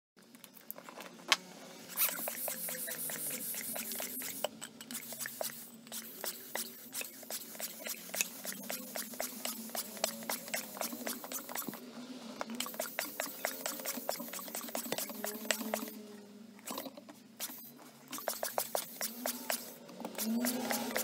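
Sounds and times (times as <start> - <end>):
electric air pump humming: 1.9 - 11.8, 12.5 - 21.0.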